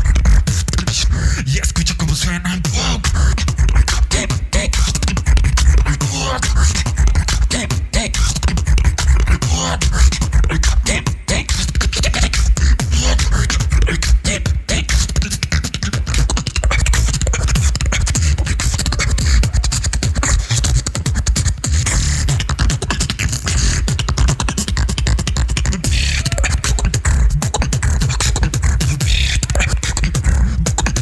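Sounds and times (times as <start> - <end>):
deep bass: 0.0 - 31.0
person beatboxing: 0.0 - 31.0.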